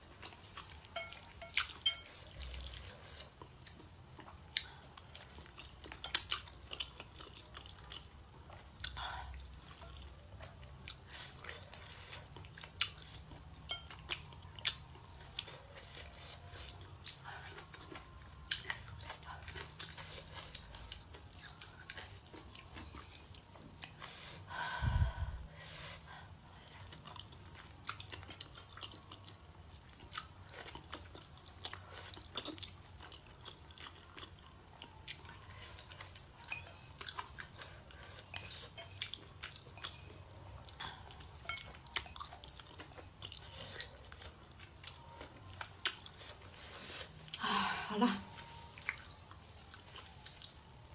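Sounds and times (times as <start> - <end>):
wet chewing and lip-smacking: 0.0 - 25.4, 26.5 - 47.4, 48.3 - 50.9.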